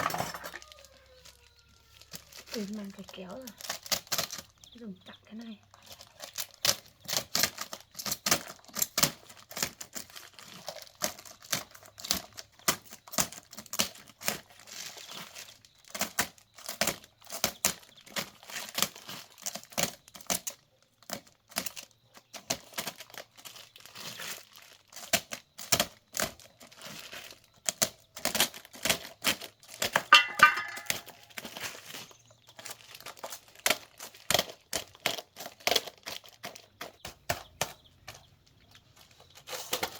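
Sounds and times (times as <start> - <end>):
plastic wrapping crinkling and tearing: 0.0 - 39.9.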